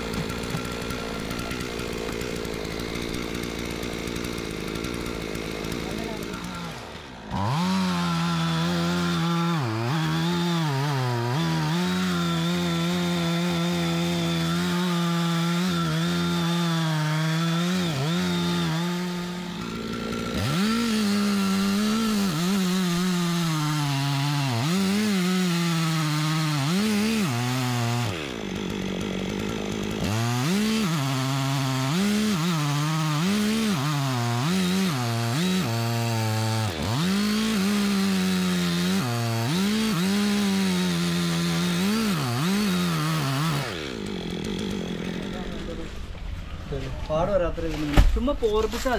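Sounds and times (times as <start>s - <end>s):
chainsaw cutting wood: 0.0s - 46.4s.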